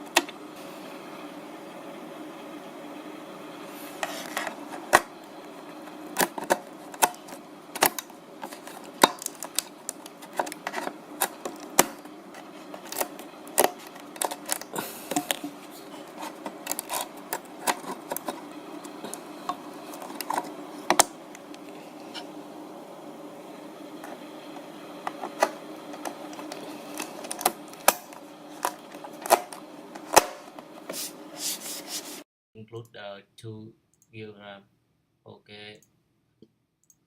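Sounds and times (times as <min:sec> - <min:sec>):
steady low hum: 0:00.0 - 0:34.7.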